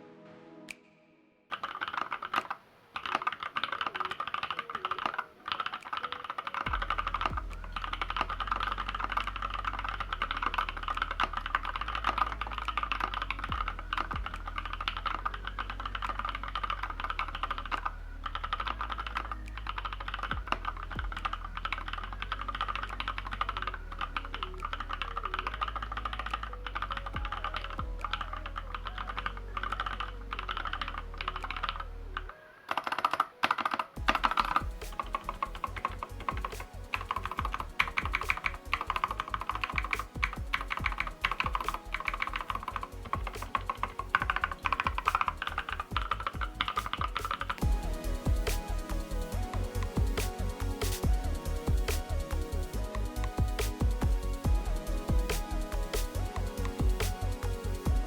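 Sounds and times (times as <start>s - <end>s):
background music with low bass: 0.0s - 1.2s, 4.2s - 32.4s, 33.9s - 58.0s
fast keyboard typing: 1.5s - 31.8s, 32.7s - 58.0s.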